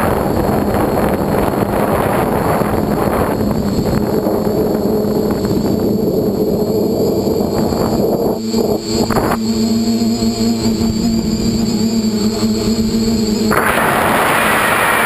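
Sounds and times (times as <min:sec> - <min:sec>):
drone propellers buzzing: 0:00.0 - 0:15.0
higher-pitched hum: 0:00.0 - 0:15.0
wind rushing over microphone: 0:00.0 - 0:15.0.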